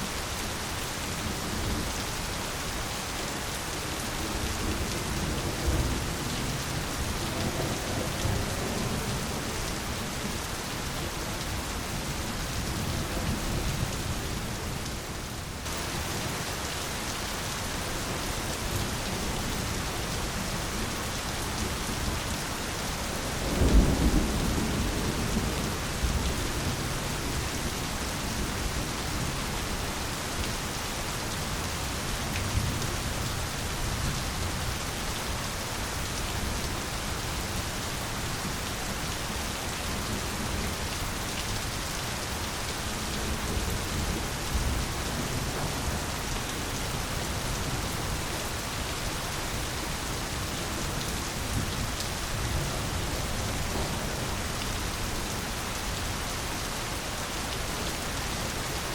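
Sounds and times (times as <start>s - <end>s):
heavy rain on foliage: 0.0s - 58.9s.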